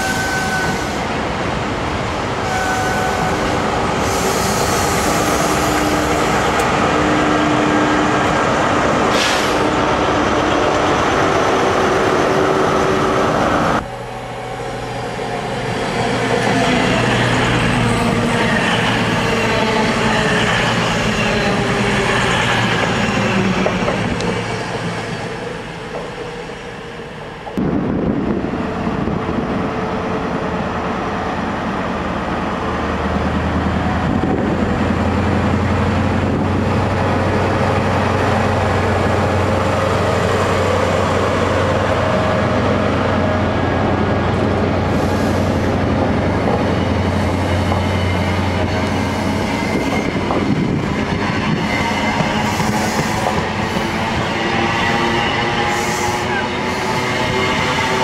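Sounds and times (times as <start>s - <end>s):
train moving along platform: 0.0s - 58.0s.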